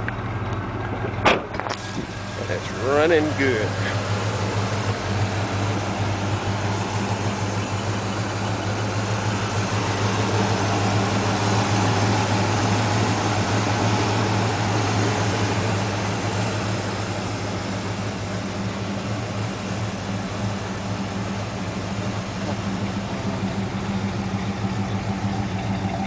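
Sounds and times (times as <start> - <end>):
vehicle engine running steadily: 0.0 - 26.0.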